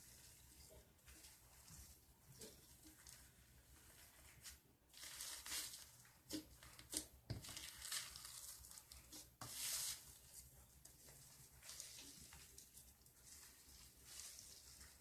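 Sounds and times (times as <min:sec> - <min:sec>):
slime squelching and crackling: 0:00.0 - 0:15.0.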